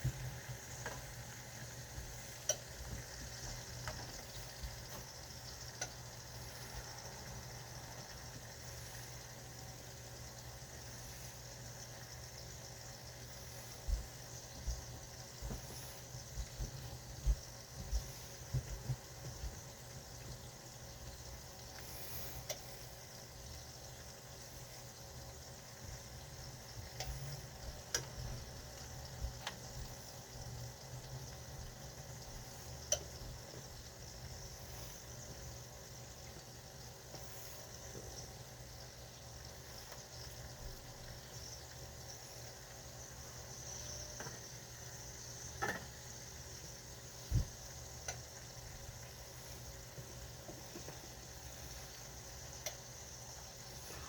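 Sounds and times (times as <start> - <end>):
food bubbling and sizzling: 0.0 - 54.0
pot boiling: 0.0 - 54.0.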